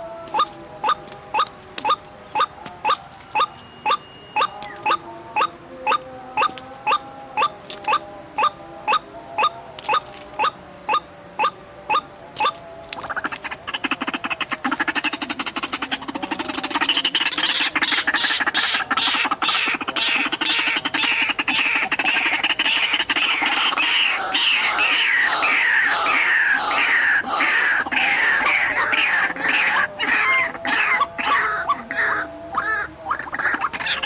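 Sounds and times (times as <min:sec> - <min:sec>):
waterhen calling harsh notes: 0:00.3 - 0:34.0.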